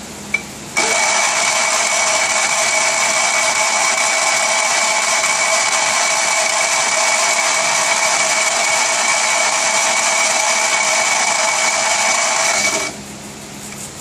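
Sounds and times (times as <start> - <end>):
starter motor cranking: 0.8 - 13.0.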